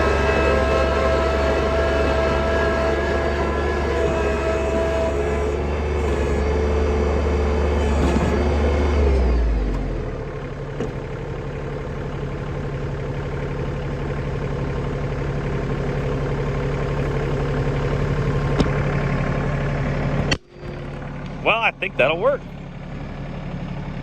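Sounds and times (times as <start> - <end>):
tractor engine: 0.0 - 24.0.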